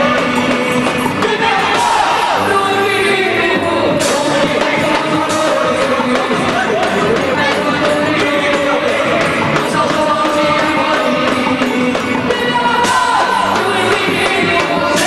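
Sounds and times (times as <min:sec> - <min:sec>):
folk dance song with band: 0:00.0 - 0:15.0.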